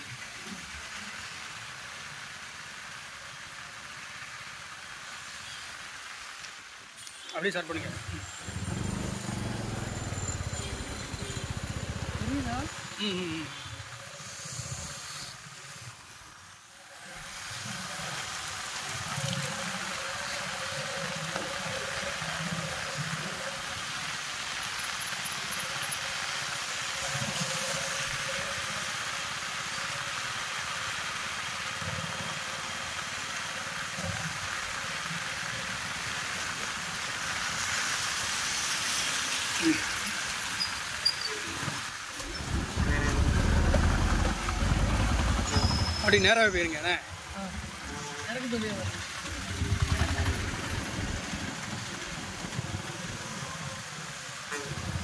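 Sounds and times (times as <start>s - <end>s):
heavy rain hissing: 0.0s - 55.0s
vehicles passing on wet road: 4.3s - 55.0s.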